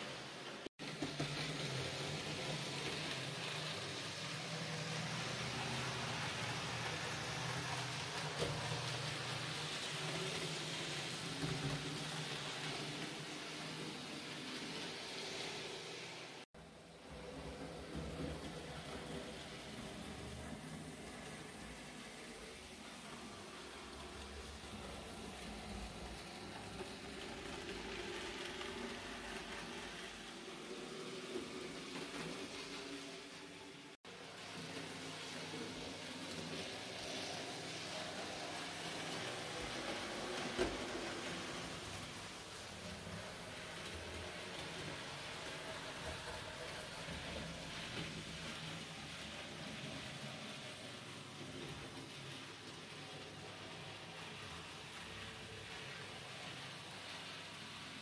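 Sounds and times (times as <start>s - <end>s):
model train rolling on track: 0.0s - 58.0s.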